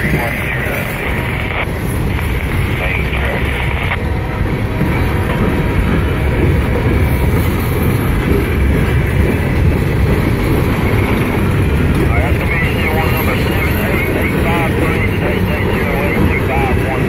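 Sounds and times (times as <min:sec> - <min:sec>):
freight cars rumbling on rails: 0:00.0 - 0:17.0.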